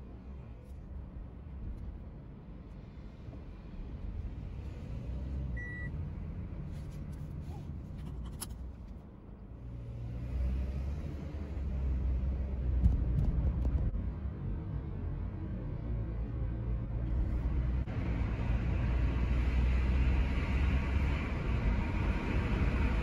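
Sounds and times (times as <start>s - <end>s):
road and engine rumble: 0.0s - 23.0s.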